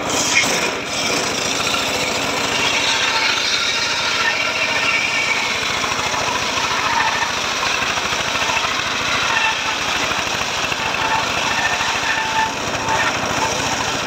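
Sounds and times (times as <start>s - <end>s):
circular saw blade cutting wood: 0.0s - 14.0s
engine pulsing: 0.7s - 14.0s.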